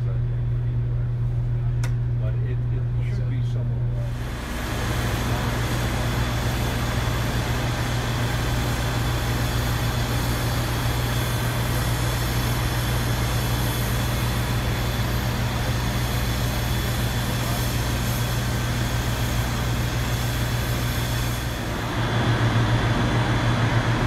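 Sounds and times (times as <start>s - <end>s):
constant low hum: 0.0s - 24.0s
machinery rushing noise: 4.0s - 24.0s.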